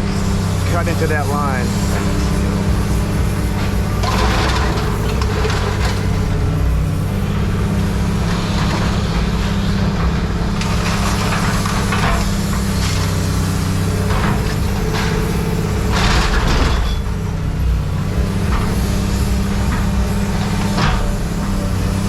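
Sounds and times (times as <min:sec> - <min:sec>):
heavy machine engine running: 0:00.0 - 0:22.0
scrap metal clattering and scraping: 0:00.0 - 0:22.0.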